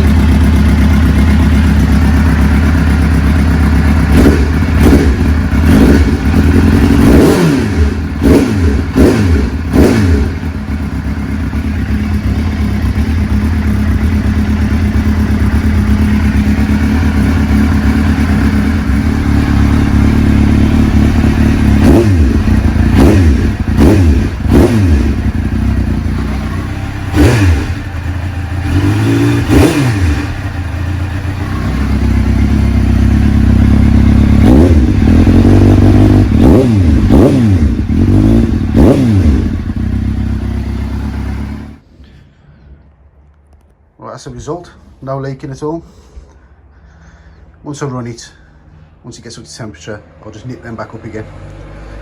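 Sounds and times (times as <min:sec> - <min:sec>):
motorcycle engine idling and revving: 0:00.0 - 0:42.0, 0:49.5 - 0:52.0.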